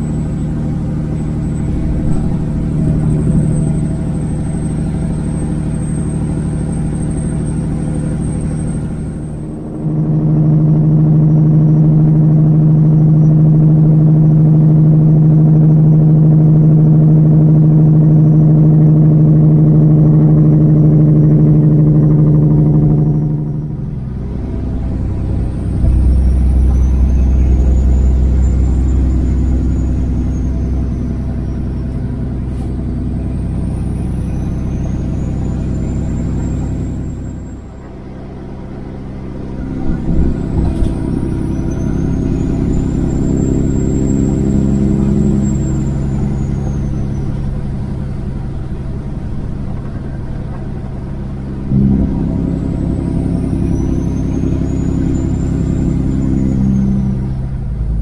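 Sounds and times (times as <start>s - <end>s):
diesel truck engine under load: 0.0s - 58.0s.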